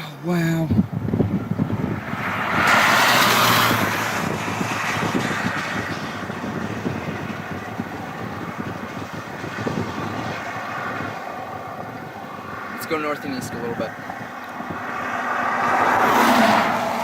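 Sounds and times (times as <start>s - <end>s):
vehicle road and wind noise: 0.0s - 17.0s
rush of noise: 0.7s - 17.0s.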